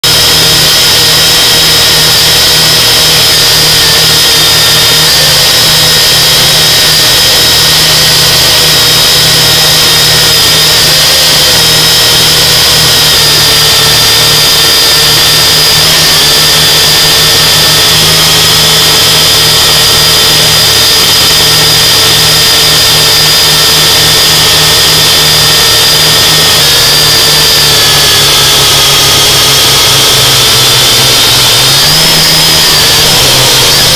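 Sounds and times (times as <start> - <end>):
drone propellers whining: 0.0 - 33.9.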